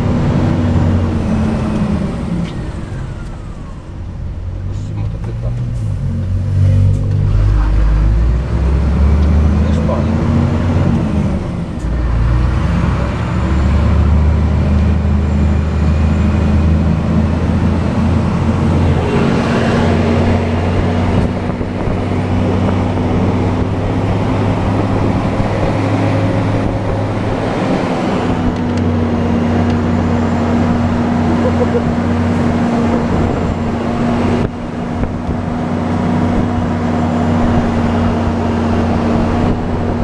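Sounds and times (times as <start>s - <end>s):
road noise: 0.0s - 40.0s
truck diesel engine droning: 0.0s - 40.0s.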